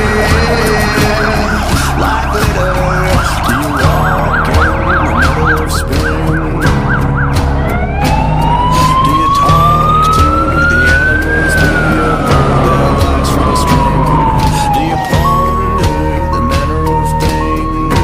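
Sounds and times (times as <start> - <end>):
fire engine siren: 0.0 - 18.0.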